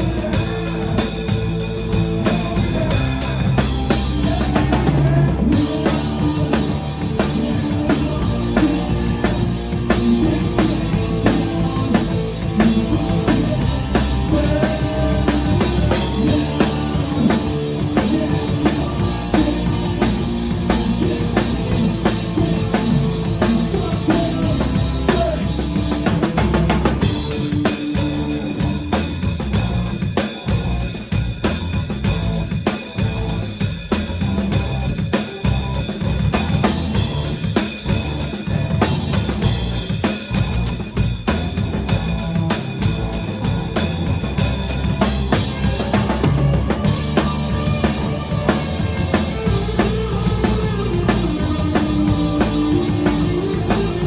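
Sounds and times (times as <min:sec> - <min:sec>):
drum kit beat: 0:00.0 - 0:54.0
rock band playing: 0:00.0 - 0:54.0.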